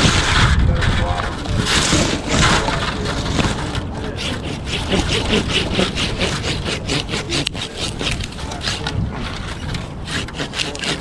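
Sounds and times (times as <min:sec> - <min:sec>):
handsaw cutting through tree limb: 0:01.3 - 0:11.0.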